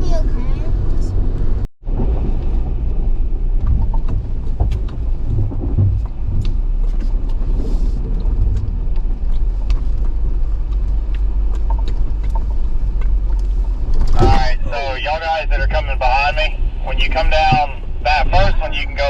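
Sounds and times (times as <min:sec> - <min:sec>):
engine and drivetrain rumble: 0:00.0 - 0:19.0.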